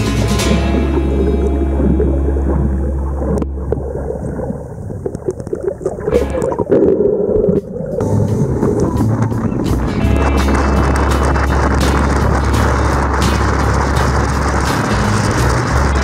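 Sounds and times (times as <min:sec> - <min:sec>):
muffled underwater water noise: 0:00.0 - 0:16.0.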